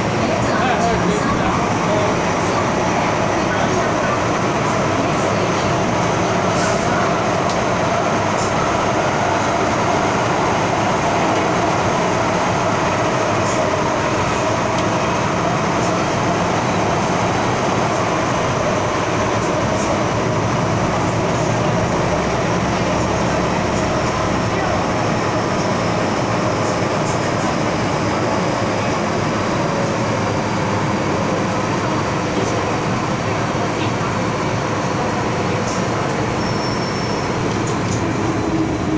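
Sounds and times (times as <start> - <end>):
train running through a tunnel: 0.0 - 38.9.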